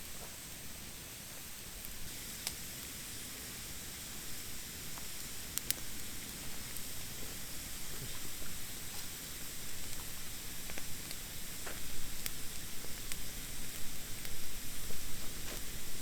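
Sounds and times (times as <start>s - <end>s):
campfire crackles: 0.0s - 16.0s
campfire hissing: 0.0s - 16.0s.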